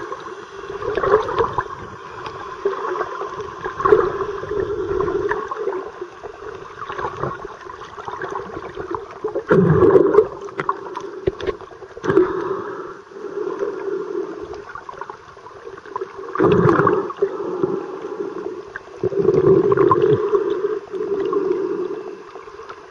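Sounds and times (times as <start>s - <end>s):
muffled underwater gurgling: 0.0s - 22.9s.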